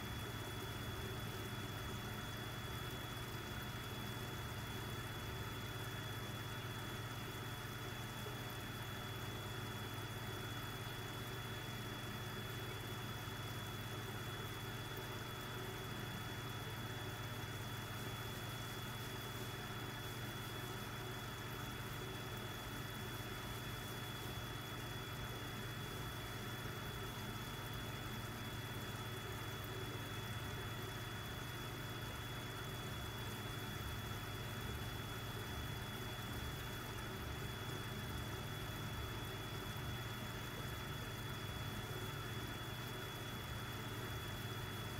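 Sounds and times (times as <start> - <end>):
aquarium air pump humming: 0.0 - 44.9.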